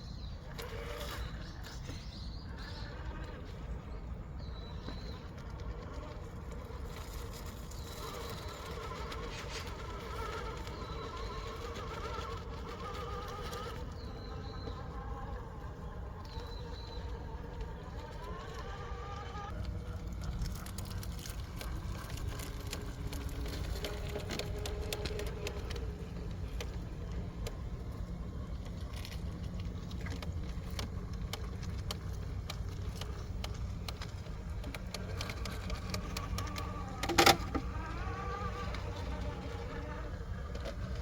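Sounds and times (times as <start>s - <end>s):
tyres and chassis clicking on rock: 0.2s - 41.0s
electric motor and gears whining: 0.4s - 41.0s.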